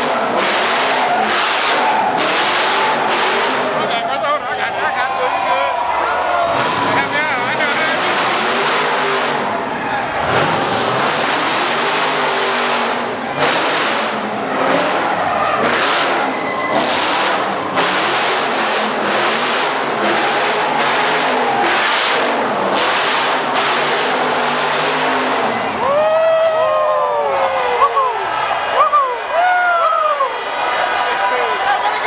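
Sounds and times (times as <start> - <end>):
car engine revving: 0.0 - 26.2
tyres skidding: 0.0 - 32.0.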